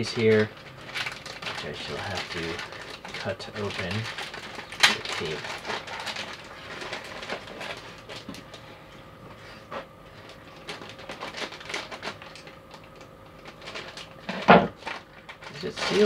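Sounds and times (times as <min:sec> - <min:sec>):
plastic bags crinkling: 0:00.0 - 0:08.7, 0:10.1 - 0:16.0.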